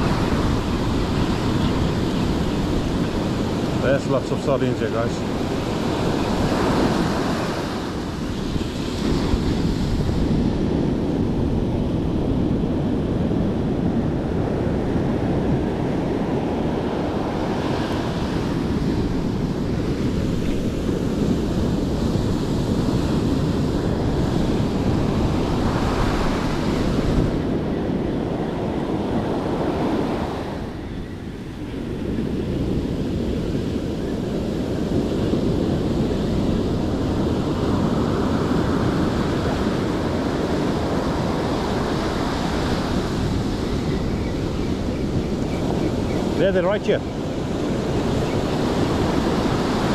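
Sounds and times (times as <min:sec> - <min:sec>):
ocean surf washing onto beach: 0:00.0 - 0:49.9
wind buffeting microphone: 0:00.0 - 0:49.9.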